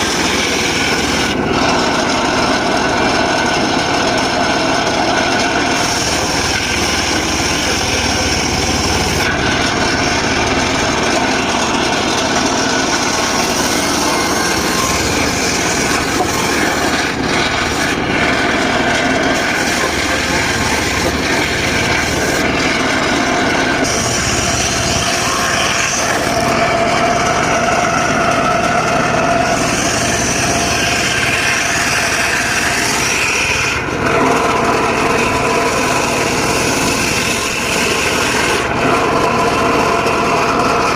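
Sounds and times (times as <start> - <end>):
circular saw cutting wood: 0.0 - 40.9.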